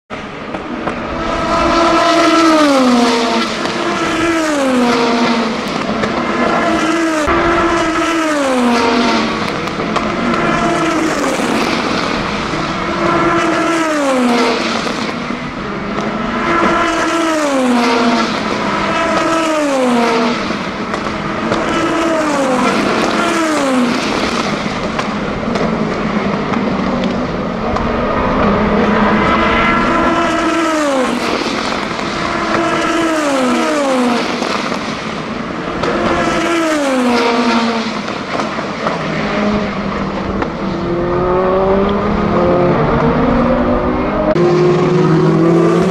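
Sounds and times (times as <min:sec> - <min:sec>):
race cars passing at speed: 0:00.1 - 0:45.9.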